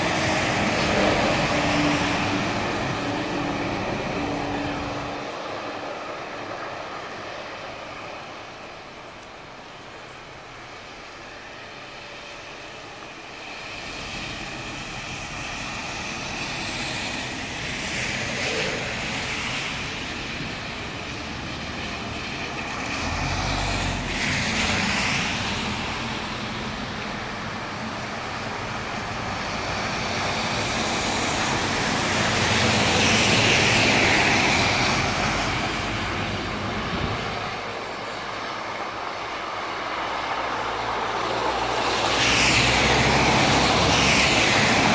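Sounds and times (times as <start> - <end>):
tyres hissing on wet road: 0.0 - 44.9.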